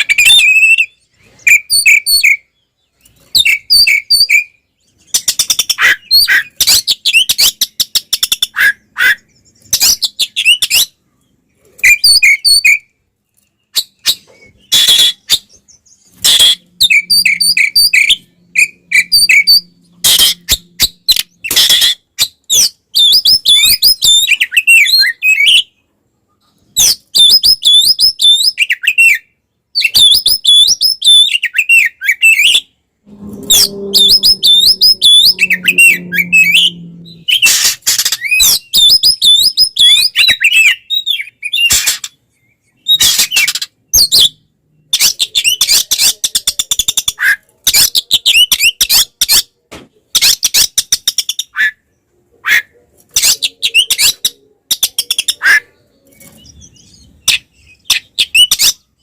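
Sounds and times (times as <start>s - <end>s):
bird singing: 0.0s - 49.1s.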